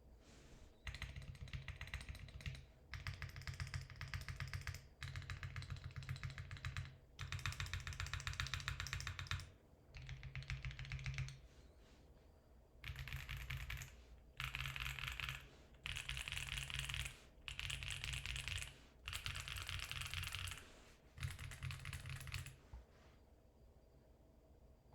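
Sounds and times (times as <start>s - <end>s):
mechanical keyboard typing: 0.8s - 11.4s, 12.8s - 22.6s.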